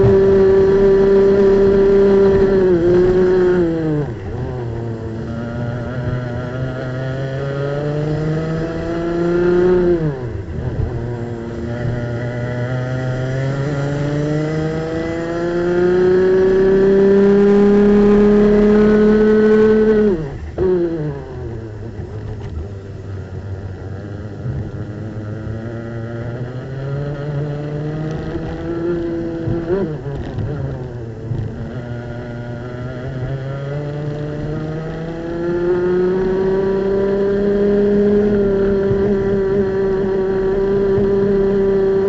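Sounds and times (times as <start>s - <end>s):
kart engine revving: 0.0s - 42.0s.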